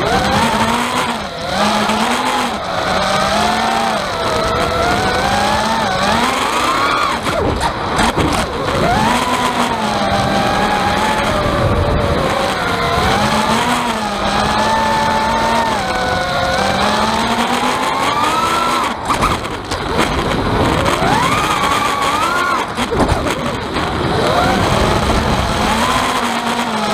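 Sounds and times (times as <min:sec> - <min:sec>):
drone motors whining: 0:00.0 - 0:26.9
rattle: 0:00.0 - 0:26.9.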